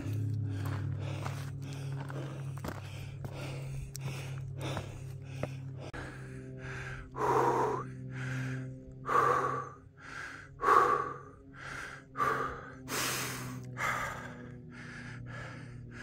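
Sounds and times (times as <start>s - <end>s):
man breathing heavily: 0.0s - 16.0s.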